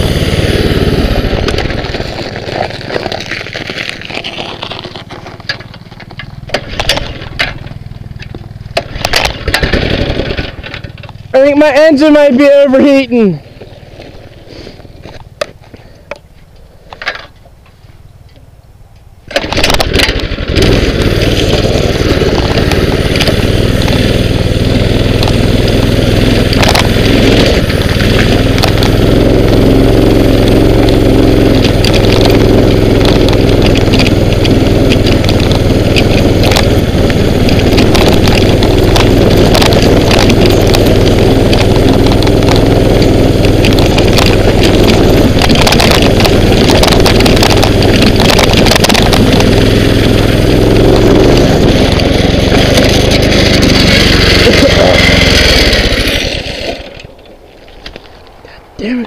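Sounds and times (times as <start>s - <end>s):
small engine running: 0.0s - 15.2s, 19.3s - 59.0s.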